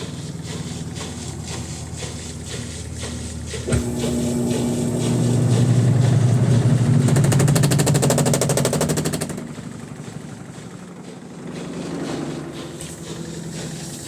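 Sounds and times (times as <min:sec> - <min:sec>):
washing machine hum: 0:00.0 - 0:14.0
washing machine rattling knocks: 0:00.0 - 0:14.0.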